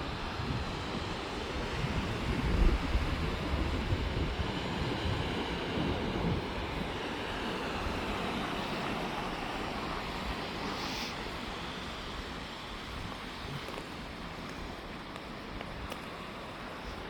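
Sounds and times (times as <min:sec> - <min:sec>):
ocean surf washing on beach: 0:00.0 - 0:17.0
wind buffeting microphone: 0:00.0 - 0:17.0.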